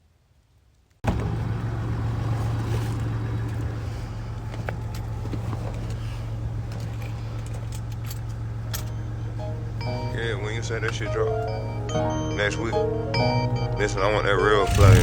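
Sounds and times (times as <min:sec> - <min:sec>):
diesel engine humming: 0:01.0 - 0:15.0.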